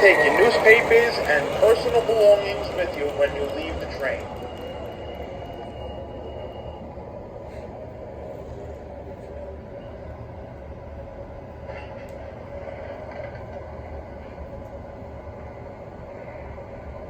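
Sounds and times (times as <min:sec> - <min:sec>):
constant hum: 0:00.0 - 0:17.0
model train rumble: 0:00.0 - 0:17.0.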